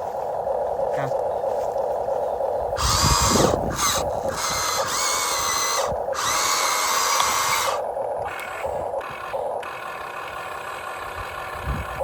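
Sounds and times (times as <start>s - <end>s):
electric motors whining: 0.1s - 12.0s.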